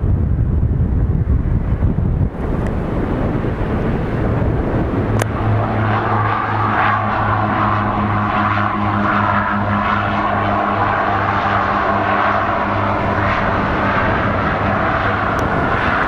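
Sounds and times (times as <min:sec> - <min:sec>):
turboprop engines humming: 0:00.0 - 0:16.0.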